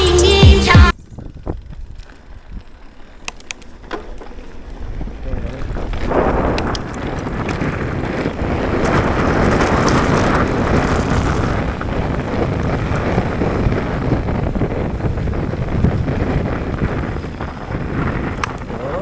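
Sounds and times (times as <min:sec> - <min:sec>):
wind on microphone: 0:00.9 - 0:02.8, 0:04.6 - 0:19.0
bike rattling over rough trail: 0:00.9 - 0:19.0.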